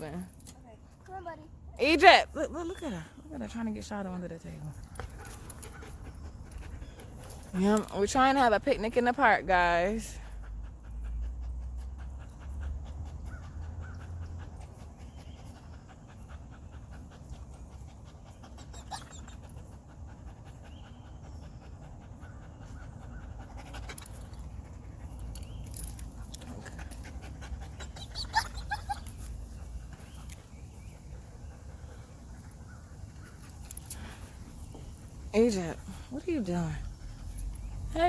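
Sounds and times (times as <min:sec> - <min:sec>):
dog panting: 0:01.0 - 0:38.0.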